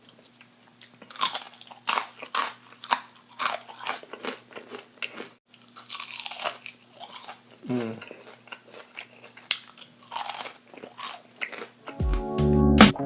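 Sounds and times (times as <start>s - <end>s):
chewing crunchy fried food: 0.0s - 12.0s.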